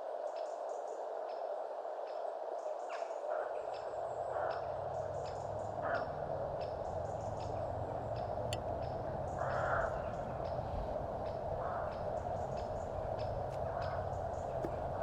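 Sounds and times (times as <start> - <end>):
steady background noise: 0.0 - 15.0
small birds chirping: 2.1 - 15.0.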